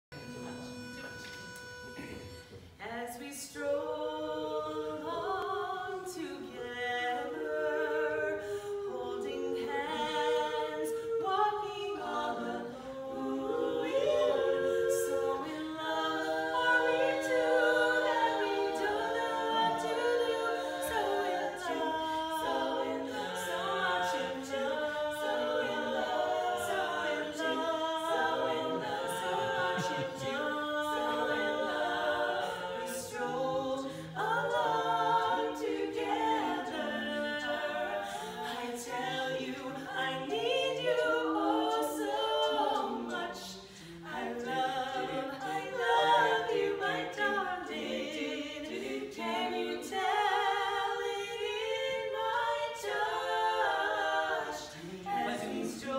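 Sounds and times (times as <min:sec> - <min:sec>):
women singing a cappella harmony: 0:00.2 - 0:55.9.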